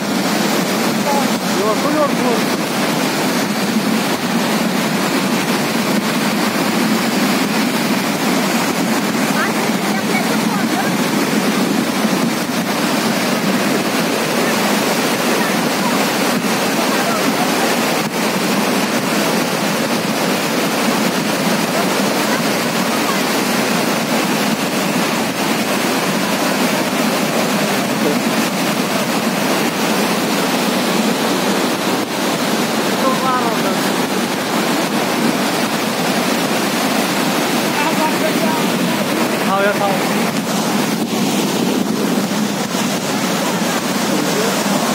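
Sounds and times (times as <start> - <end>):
floodwater rushing: 0.0 - 44.9.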